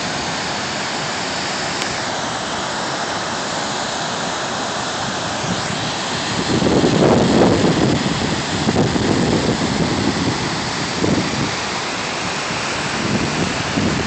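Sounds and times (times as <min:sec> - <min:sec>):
waterfall and rapids rushing: 0:00.0 - 0:14.0.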